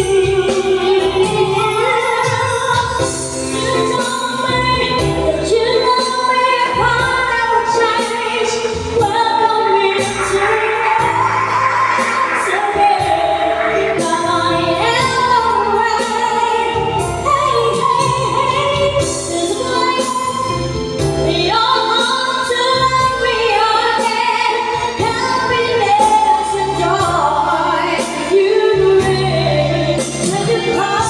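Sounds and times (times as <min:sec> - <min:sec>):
backing music with bass line: 0:00.0 - 0:31.0
girl and woman singing duet: 0:00.0 - 0:31.0.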